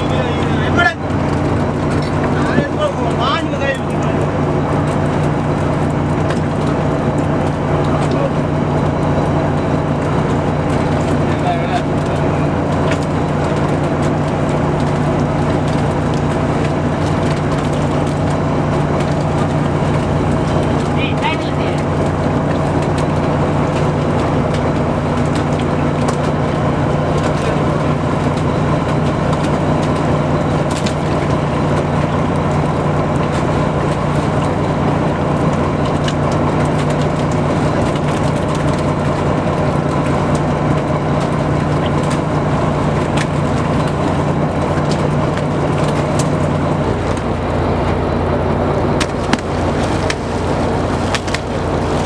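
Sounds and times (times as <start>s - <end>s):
boat engine humming: 0.0s - 52.0s.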